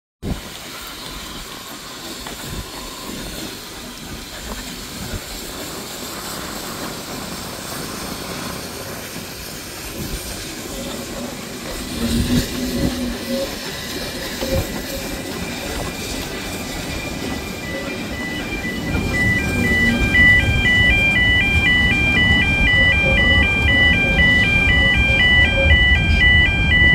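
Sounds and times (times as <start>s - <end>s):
steam hiss: 0.2s - 25.4s
train wheels clattering on rails: 0.2s - 26.9s.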